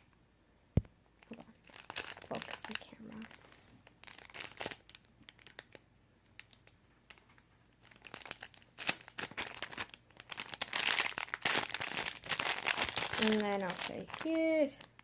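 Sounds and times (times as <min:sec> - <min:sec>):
plastic bag crinkling: 0:01.2 - 0:15.0.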